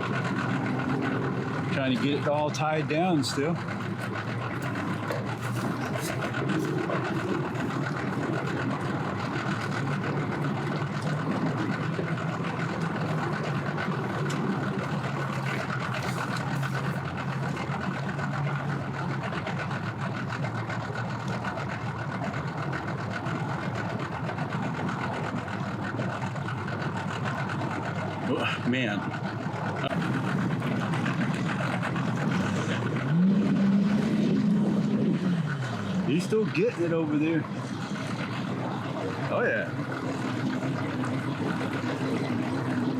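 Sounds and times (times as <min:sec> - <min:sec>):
steady low tone: 0:00.0 - 0:36.1
engines idling: 0:00.0 - 0:42.9.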